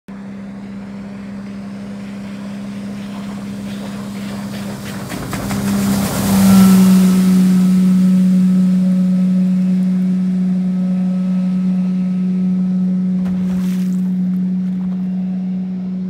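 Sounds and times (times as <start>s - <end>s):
hull and spray rushing: 0.1s - 15.1s
boat engine droning: 0.1s - 16.0s.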